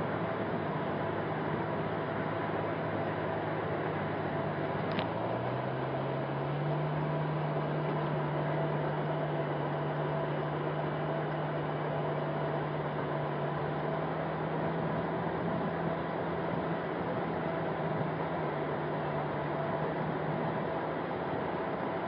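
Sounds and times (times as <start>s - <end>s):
distant engine droning: 0.0s - 22.0s.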